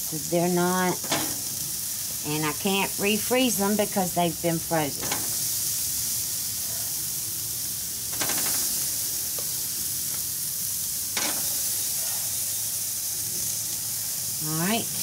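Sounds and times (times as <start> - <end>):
hamburger patties sizzling on grill: 0.0 - 15.0
loud sizzle burst: 0.0 - 15.0.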